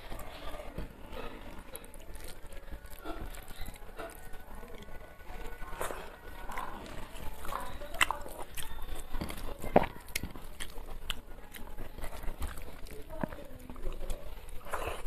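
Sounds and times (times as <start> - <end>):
mouth chewing rice: 0.0 - 15.0.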